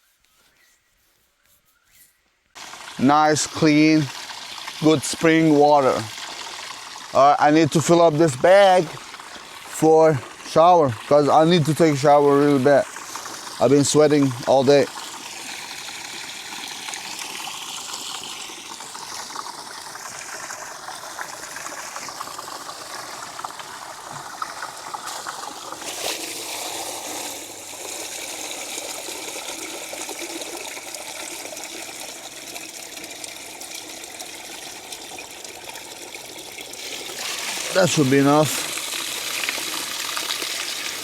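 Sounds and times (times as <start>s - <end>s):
water trickling into a bag: 2.6s - 41.0s.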